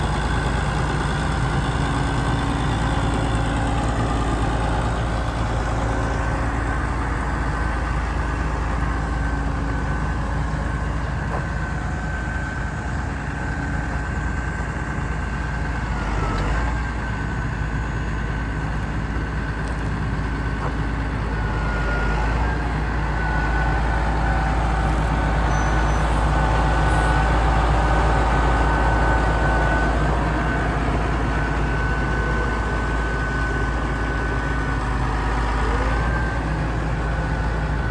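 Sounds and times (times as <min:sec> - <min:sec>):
tractor diesel engine idling: 0:00.0 - 0:37.9.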